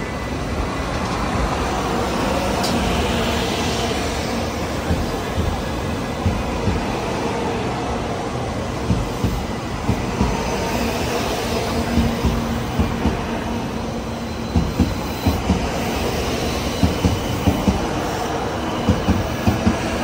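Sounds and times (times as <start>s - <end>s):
train cars rumbling: 0.0s - 20.0s.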